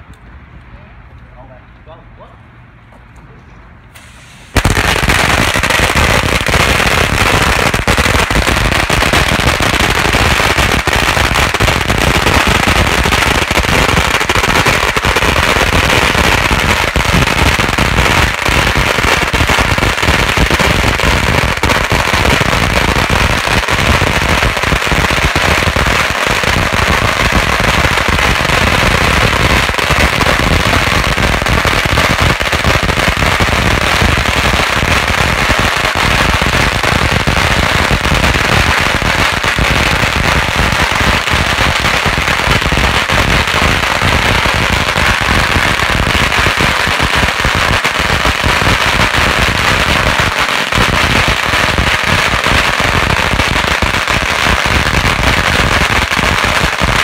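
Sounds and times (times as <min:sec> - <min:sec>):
firecrackers crackling: 0:04.0 - 0:57.0.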